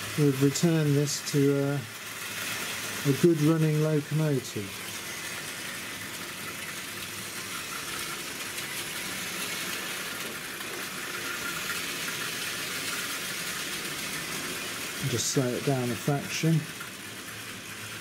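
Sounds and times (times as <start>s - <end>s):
model train motor whirring: 0.0s - 18.0s
wheels clattering on rails: 0.0s - 18.0s.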